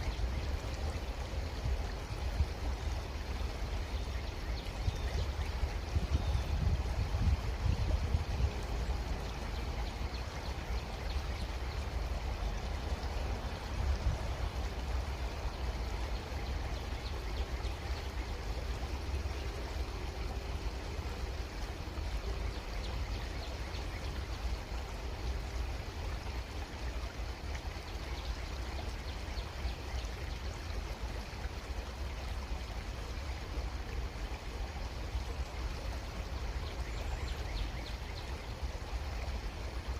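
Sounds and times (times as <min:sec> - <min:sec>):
creek running: 0:00.0 - 0:39.9.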